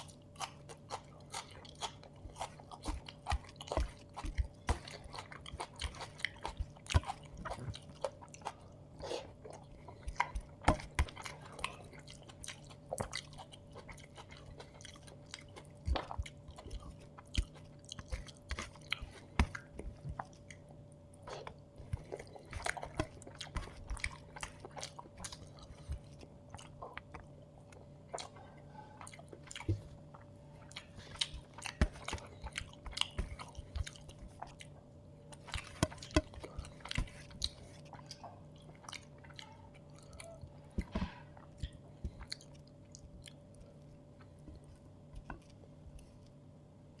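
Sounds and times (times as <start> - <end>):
person chewing and biting: 0.0 - 46.3
faint steady hum: 0.0 - 47.0.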